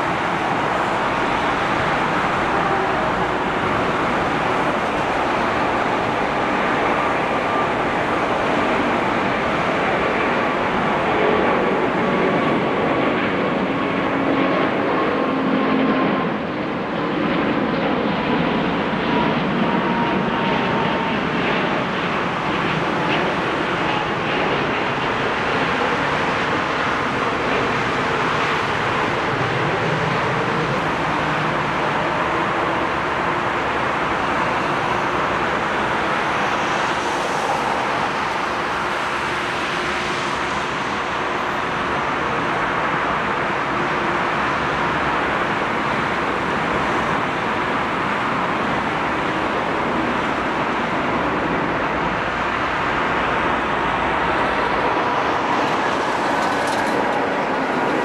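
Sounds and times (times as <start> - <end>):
faint engine whine: 0.0 - 58.0
jet engine roar: 0.0 - 58.0.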